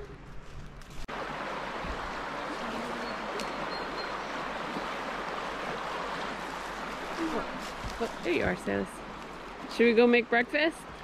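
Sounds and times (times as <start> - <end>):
river rushing over riffles: 1.1 - 11.0.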